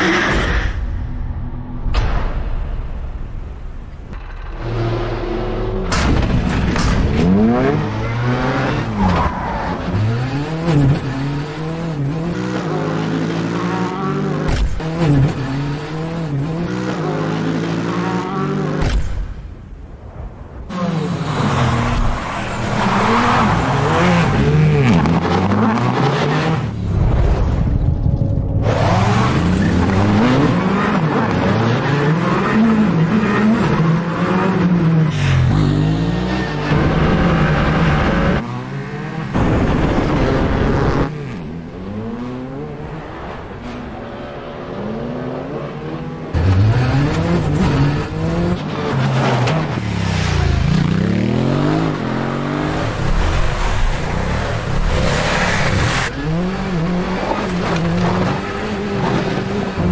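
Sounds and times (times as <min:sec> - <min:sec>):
rally car engine revving: 0:04.1 - 0:19.0, 0:20.7 - 0:27.4, 0:28.1 - 0:59.9.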